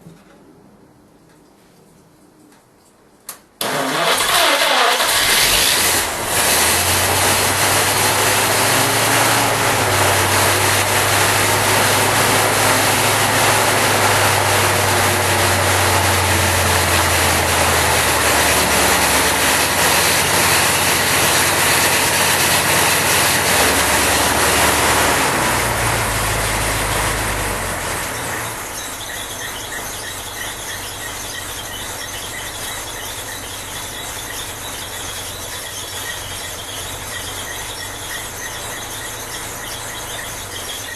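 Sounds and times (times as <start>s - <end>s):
car engine running: 3.6s - 40.9s.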